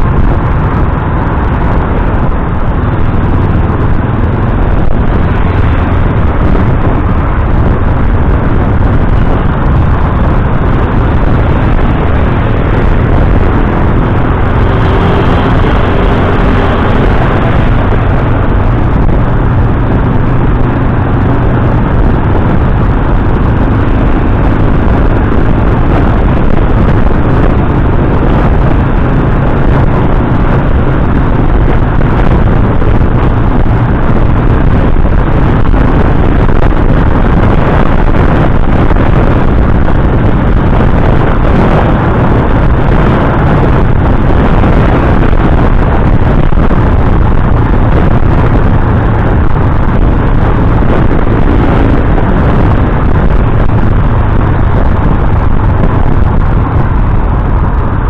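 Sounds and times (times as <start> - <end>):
motorcycle engine running: 0.0 - 58.0
road noise: 0.0 - 58.0
wind noise on microphone: 0.0 - 58.0.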